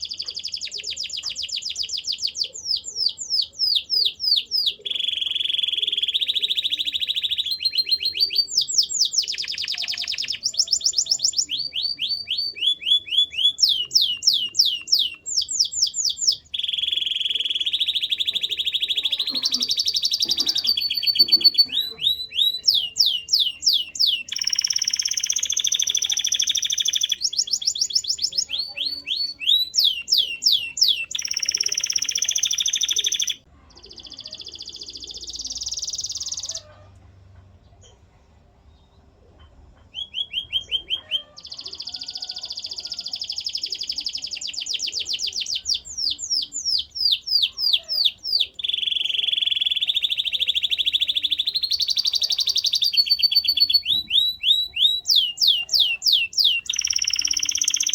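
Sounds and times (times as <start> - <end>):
canary singing: 0.0 - 36.9, 39.8 - 57.9.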